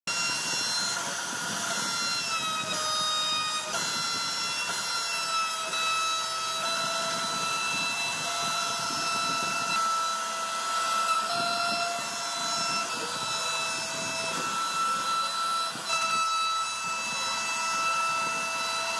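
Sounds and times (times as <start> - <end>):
hiss of wood cutting: 0.1 - 18.9
router spindle whining: 0.1 - 18.9.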